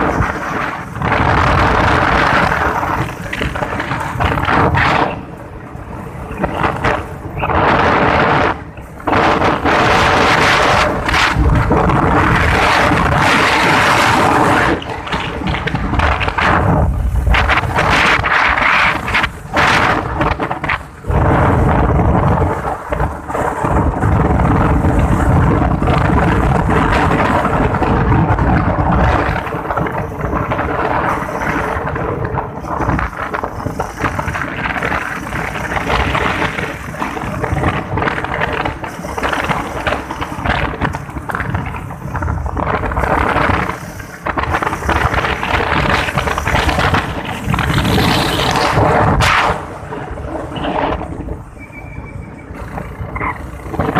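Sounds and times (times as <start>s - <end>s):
motorcycle engine running: 0.0s - 53.9s
wind buffeting microphone: 0.0s - 53.9s.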